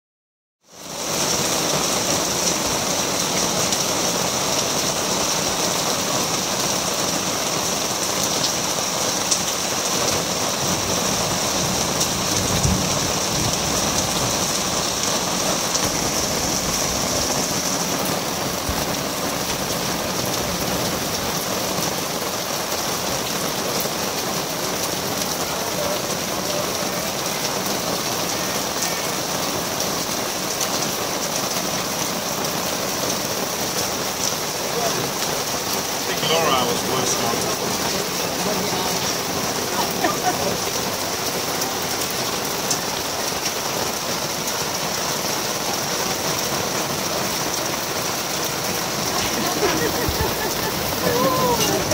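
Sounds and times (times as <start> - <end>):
heavy rain on wooden tables: 0.6 - 51.9.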